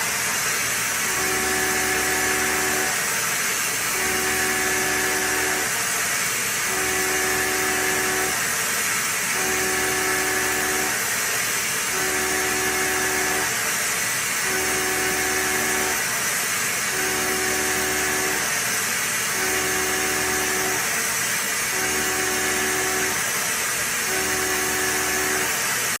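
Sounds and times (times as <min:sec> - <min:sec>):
milling machine cutting hum: 0:00.0 - 0:26.0.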